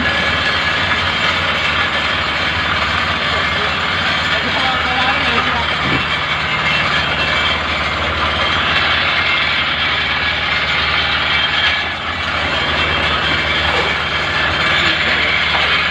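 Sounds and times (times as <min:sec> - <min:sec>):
concrete mixer running: 0:00.0 - 0:15.9.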